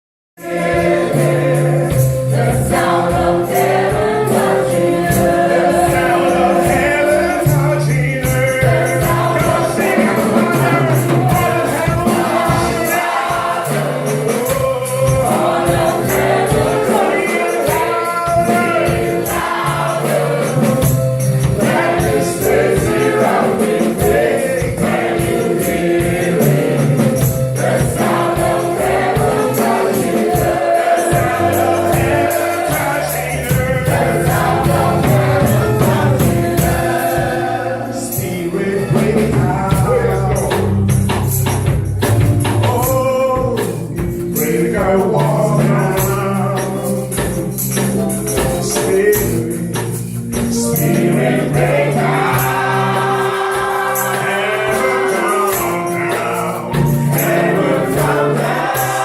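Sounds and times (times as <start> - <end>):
gospel choir singing: 0.4 - 59.0
tambourine shaking: 0.4 - 59.0
bass: 0.5 - 17.0, 17.7 - 59.0.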